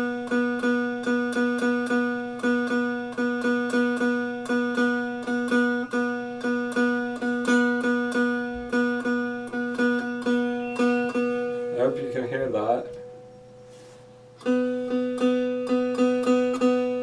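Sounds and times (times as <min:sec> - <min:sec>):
plucked single string: 0:00.0 - 0:13.7, 0:14.4 - 0:17.0.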